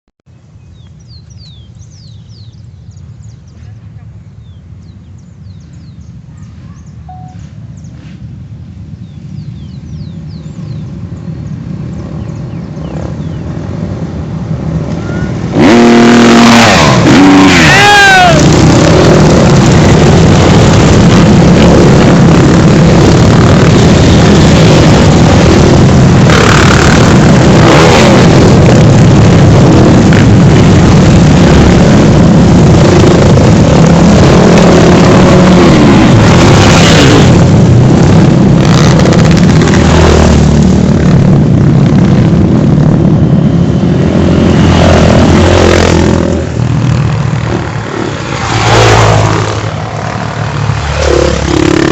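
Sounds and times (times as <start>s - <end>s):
motorcycle engines revving: 0.8s - 51.9s.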